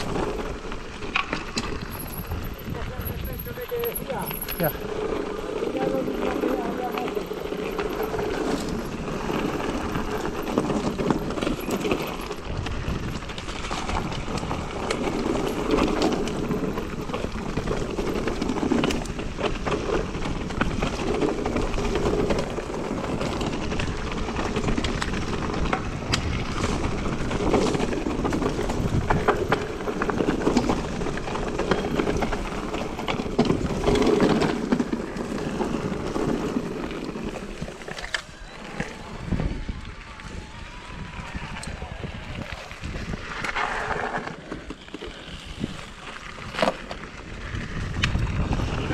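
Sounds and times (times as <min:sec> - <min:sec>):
bike rattling and knocking: 0:00.0 - 0:39.4
bike tyres rumbling on trail: 0:00.0 - 0:48.9.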